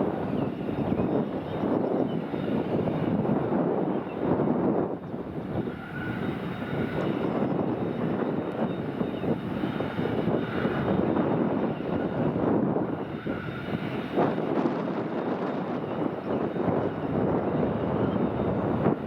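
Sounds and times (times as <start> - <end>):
faint thin whine: 0.0 - 19.0
jet engines rushing: 0.0 - 19.0.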